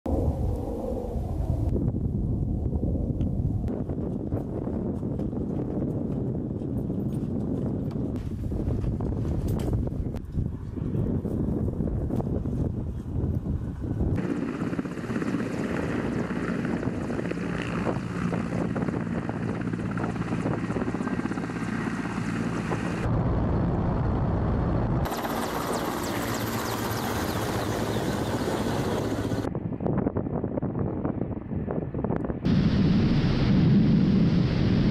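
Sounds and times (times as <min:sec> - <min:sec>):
helicopter rotor and engines drone: 0:02.7 - 0:32.7.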